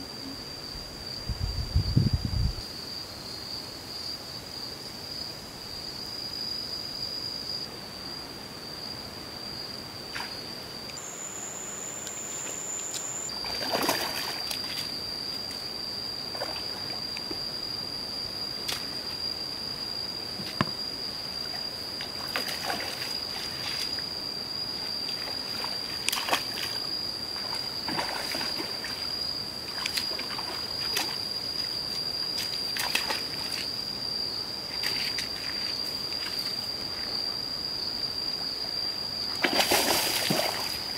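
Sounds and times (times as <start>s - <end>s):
high-pitched insect drone: 0.0s - 40.9s.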